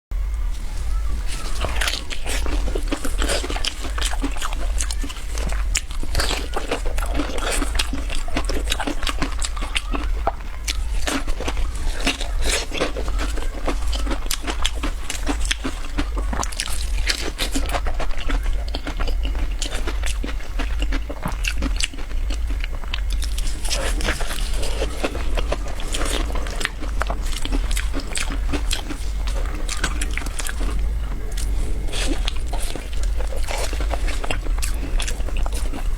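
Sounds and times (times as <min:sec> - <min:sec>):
steady low hum: 0:00.1 - 0:35.9
crunching biscuits: 0:00.4 - 0:35.9.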